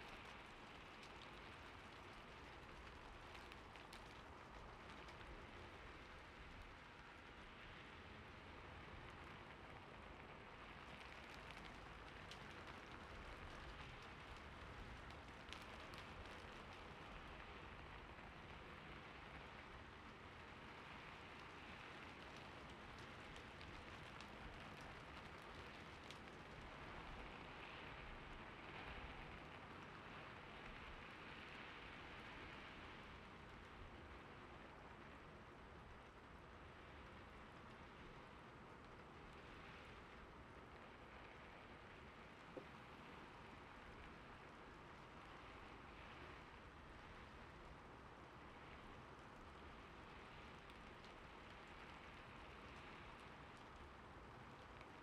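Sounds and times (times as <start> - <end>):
faint steady rain: 0.0 - 55.0.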